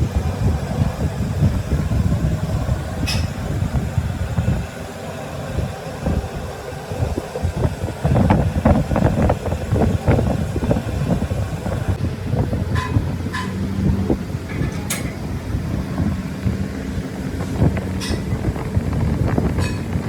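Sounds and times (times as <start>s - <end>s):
machine low rumble: 0.0s - 20.0s.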